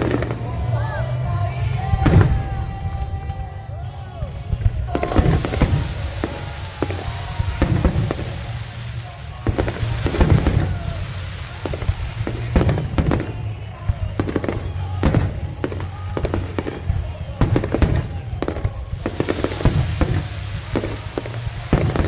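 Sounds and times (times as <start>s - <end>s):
fireworks booming: 0.0s - 22.0s.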